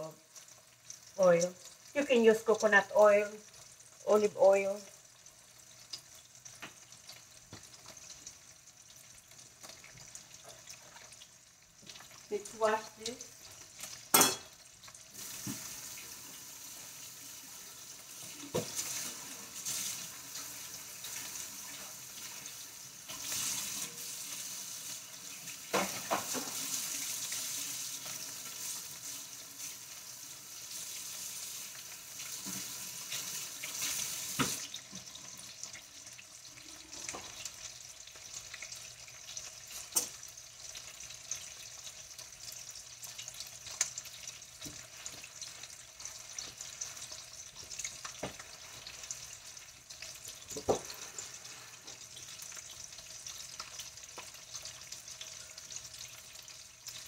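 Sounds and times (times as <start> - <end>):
meat sizzling in a frying pan: 0.0 - 57.0
tap water running: 0.0 - 57.0.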